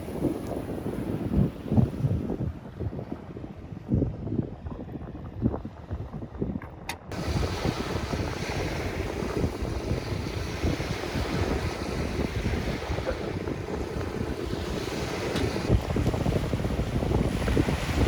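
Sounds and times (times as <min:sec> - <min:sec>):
sea surf: 0:00.0 - 0:03.7, 0:07.1 - 0:18.0
wind buffeting microphone: 0:00.0 - 0:18.0.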